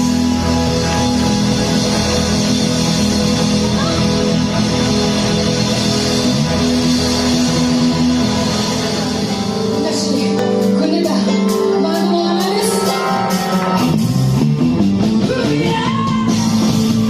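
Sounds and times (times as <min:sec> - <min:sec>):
live rock band with electric guitar: 0:00.0 - 0:17.0.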